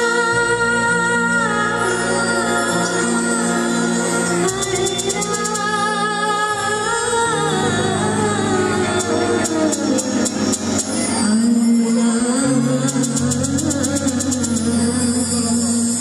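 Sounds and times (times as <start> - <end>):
live band playing: 0.0 - 16.0
woman singing into a microphone: 0.0 - 16.0.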